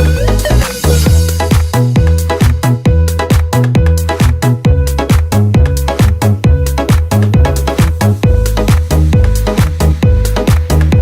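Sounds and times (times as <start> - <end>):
loud electronic dance music: 0.0 - 11.0.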